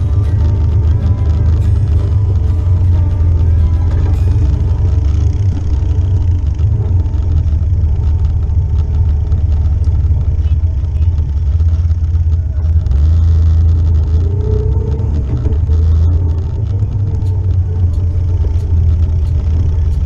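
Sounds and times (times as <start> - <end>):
atv engine rumbling: 0.0 - 20.0.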